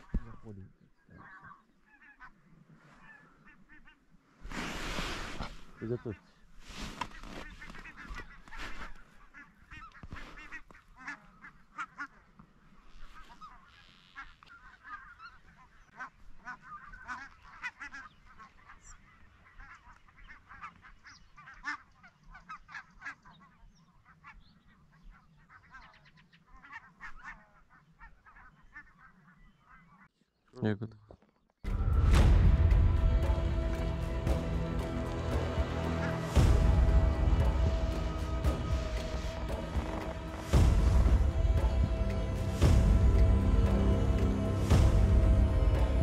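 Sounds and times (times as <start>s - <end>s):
geese honking: 1.1s - 4.1s, 7.0s - 30.1s, 31.8s - 46.0s.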